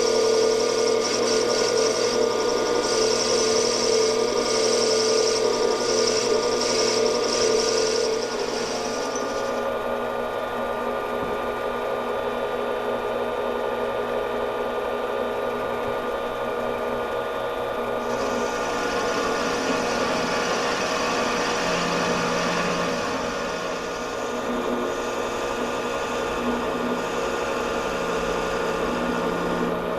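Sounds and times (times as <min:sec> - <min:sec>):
metal lathe running: 0:00.0 - 0:29.9.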